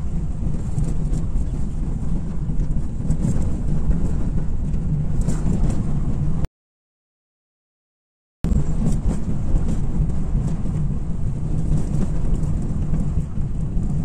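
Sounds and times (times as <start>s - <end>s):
car driving on dirt road: 0.0s - 6.4s, 8.5s - 14.0s.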